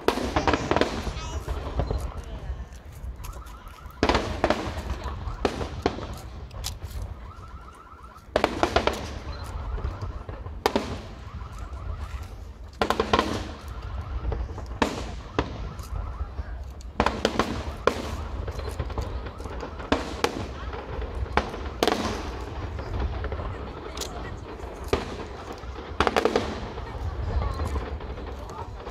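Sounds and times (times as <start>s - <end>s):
fireworks bursting with sharp bangs: 0.0s - 28.9s.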